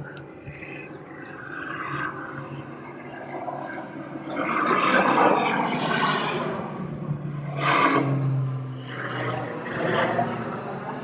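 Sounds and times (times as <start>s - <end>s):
propeller plane flying overhead: 0.0s - 11.0s.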